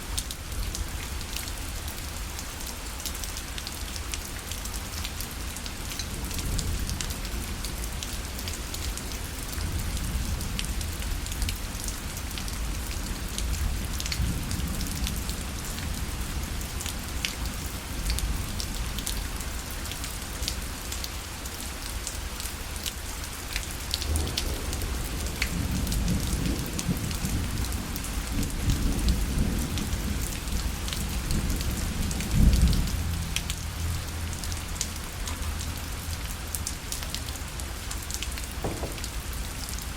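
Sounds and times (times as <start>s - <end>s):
rain on a fabric parasol: 0.0s - 39.9s.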